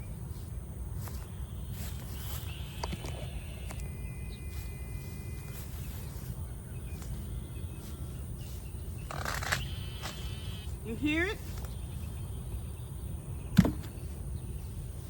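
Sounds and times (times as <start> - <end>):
faint insect drone: 0.0 - 15.0
steady low rumble: 0.0 - 15.0
faint bird chirps: 1.4 - 14.8.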